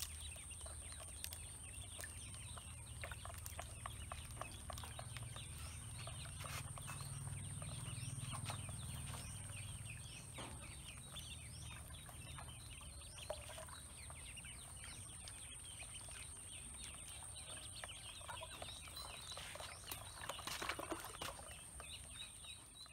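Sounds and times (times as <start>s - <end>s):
ducklings peeping: 0.0s - 22.9s.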